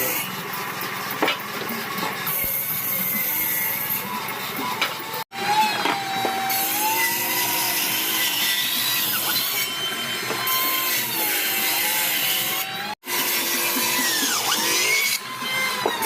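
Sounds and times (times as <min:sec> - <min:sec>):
power tool motor whine: 0:00.0 - 0:16.0
saw cutting hardwood: 0:00.0 - 0:16.0.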